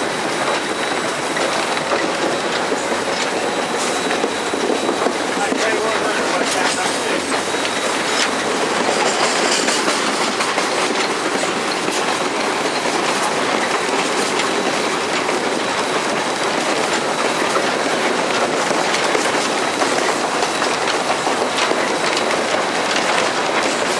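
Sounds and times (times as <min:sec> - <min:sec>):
steam locomotive cab running noise: 0:00.0 - 0:23.9
wheels clicking over rail joints: 0:00.0 - 0:23.9.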